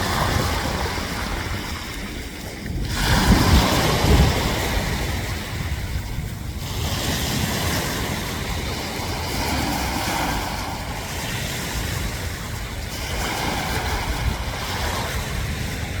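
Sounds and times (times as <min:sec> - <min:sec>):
sea waves breaking: 0:00.0 - 0:16.0
wind buffeting microphone: 0:00.0 - 0:16.0.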